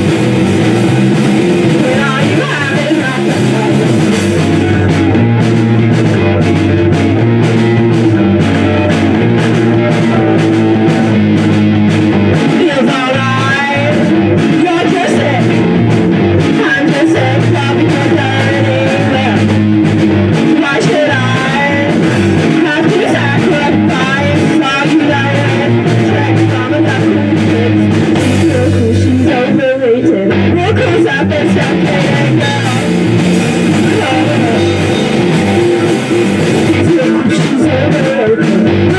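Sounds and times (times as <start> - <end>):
guitar: 0.0 - 38.9
rock band playing live: 0.0 - 38.9.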